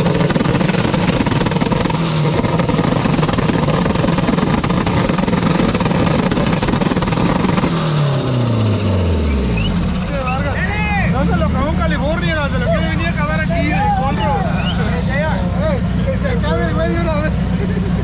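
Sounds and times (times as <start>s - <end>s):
loud engine running: 0.0s - 18.0s.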